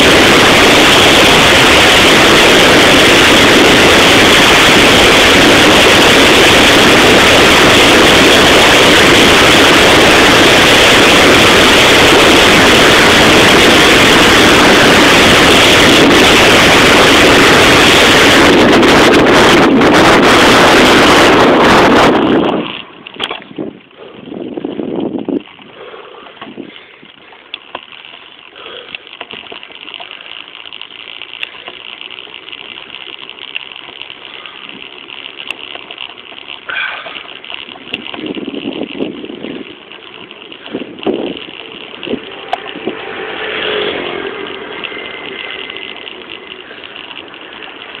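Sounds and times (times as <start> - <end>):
bicycle clicks and rattles: 0.0 - 48.0
bicycle rolling on pavement: 0.0 - 48.0
rushes of noise: 0.0 - 48.0.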